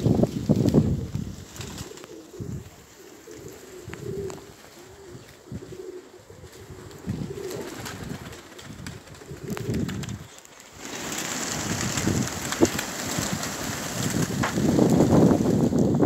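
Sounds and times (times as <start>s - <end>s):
wind rumbling on microphone: 0.0s - 16.0s
pigeons cooing: 0.8s - 15.7s.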